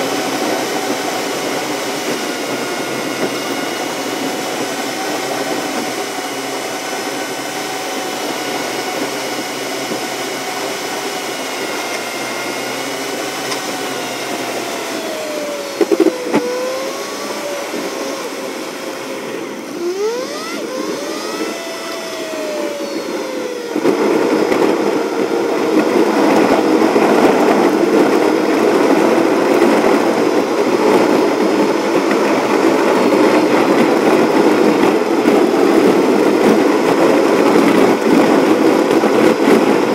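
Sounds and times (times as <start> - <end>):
car engine in cabin: 0.0 - 39.9.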